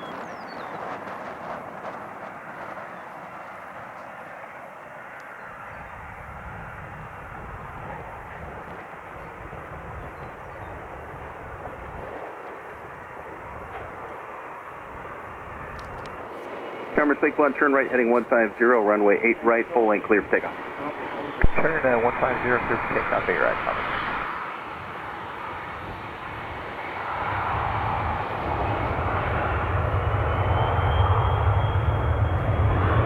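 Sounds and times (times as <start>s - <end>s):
airplane engine rumble: 0.0s - 33.0s.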